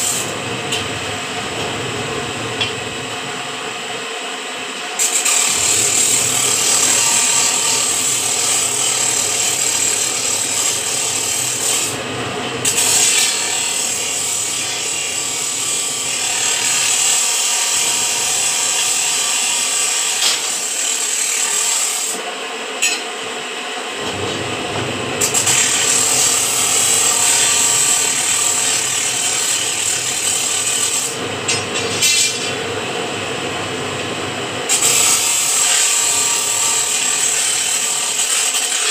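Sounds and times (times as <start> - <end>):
metal grinding and scraping machine: 0.0 - 3.9, 4.7 - 23.2, 23.9 - 38.9.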